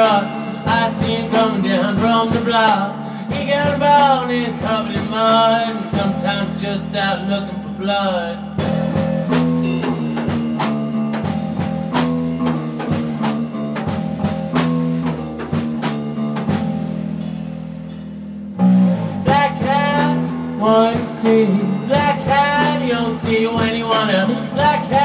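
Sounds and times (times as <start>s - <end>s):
drum kit beat: 0.0s - 7.1s, 8.4s - 25.0s.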